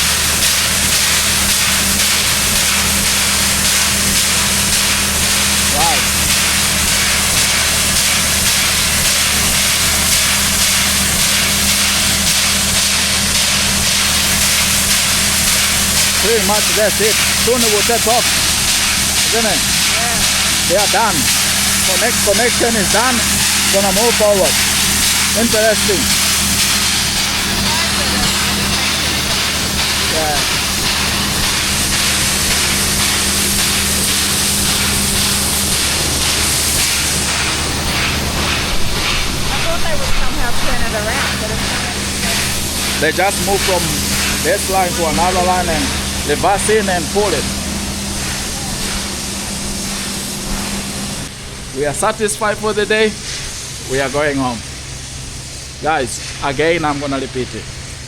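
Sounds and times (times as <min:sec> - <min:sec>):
steady low hum: 0:00.0 - 0:58.0
steam venting hiss: 0:00.0 - 0:58.0.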